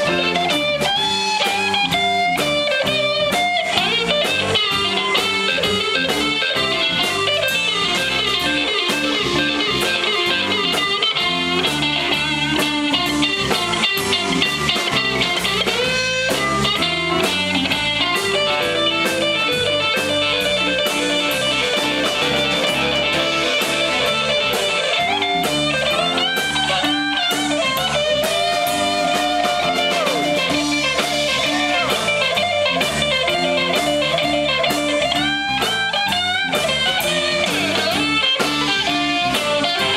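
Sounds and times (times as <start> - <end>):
bass and drums: 0.0 - 39.9
electric guitar lead line: 0.0 - 39.9.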